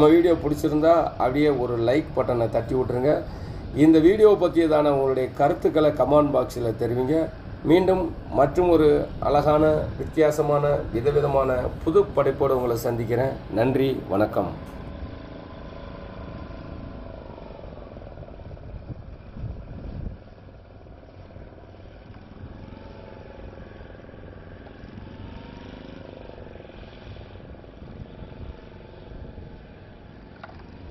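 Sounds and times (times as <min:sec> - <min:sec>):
boat engines droning: 0:00.0 - 0:18.5, 0:20.2 - 0:30.9
wind rumbling on microphone: 0:00.0 - 0:30.9.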